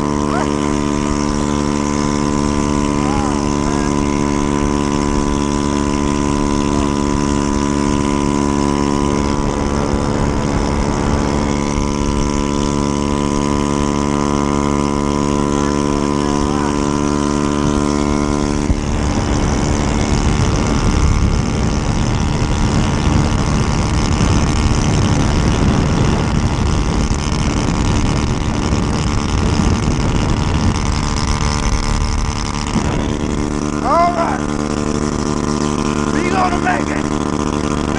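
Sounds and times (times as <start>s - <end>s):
passing traffic: 0.0s - 37.9s
scooter engine cruising: 0.0s - 37.9s
wind noise: 0.0s - 37.9s.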